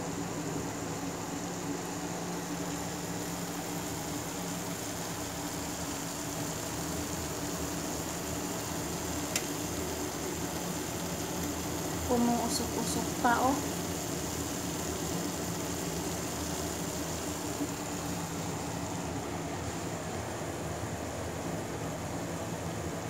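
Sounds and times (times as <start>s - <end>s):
fan motor humming: 0.0s - 23.0s.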